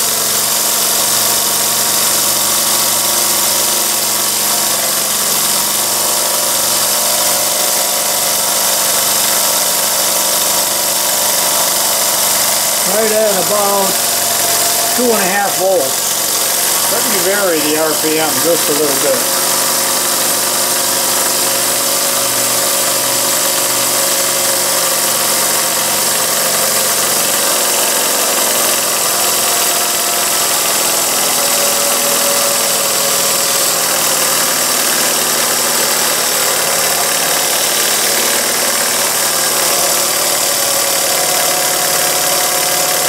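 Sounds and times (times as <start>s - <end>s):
model steam engine running: 0.0s - 43.0s.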